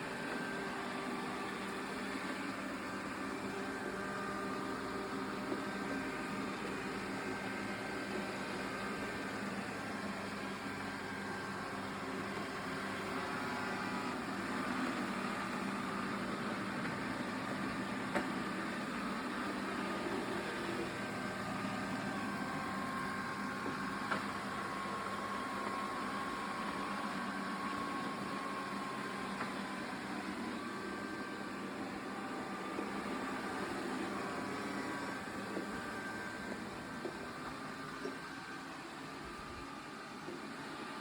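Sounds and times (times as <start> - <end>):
robot vacuum whirring: 0.0 - 41.0.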